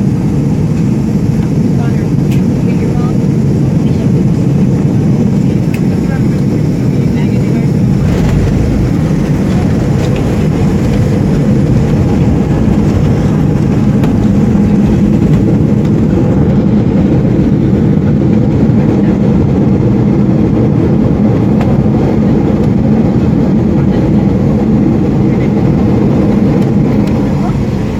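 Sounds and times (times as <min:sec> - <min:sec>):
airliner engine roar in cabin: 0:00.0 - 0:27.9.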